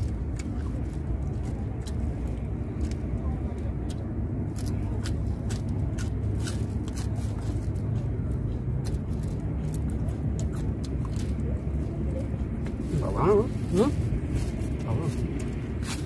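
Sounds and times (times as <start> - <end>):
chewing and crunching lettuce: 0.0 - 16.0.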